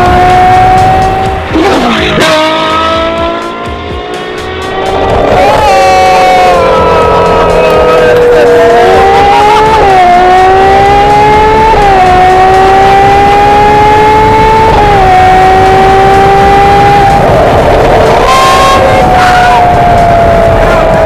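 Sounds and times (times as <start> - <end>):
car engine accelerating through gears: 0.0 - 21.0.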